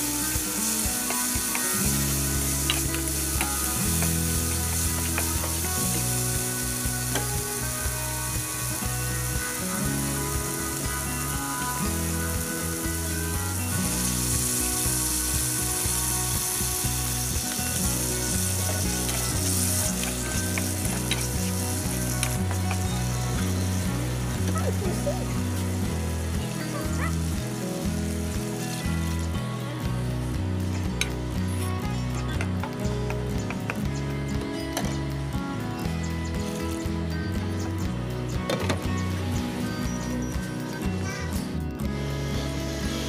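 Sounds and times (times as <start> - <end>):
background music with low notes: 0.0 - 43.0
vegetables sizzling in oil: 0.0 - 43.0.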